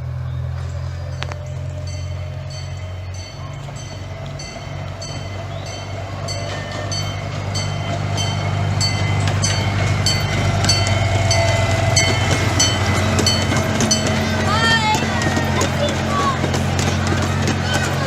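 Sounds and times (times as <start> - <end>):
small train engine running: 0.0 - 18.0
wheels clicking over rail joints: 0.0 - 18.0.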